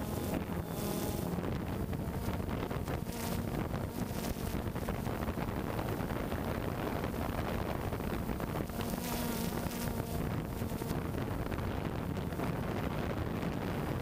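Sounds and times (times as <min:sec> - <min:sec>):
drone propellers buzzing: 0:00.0 - 0:14.0
wind rushing over microphone: 0:00.0 - 0:14.0.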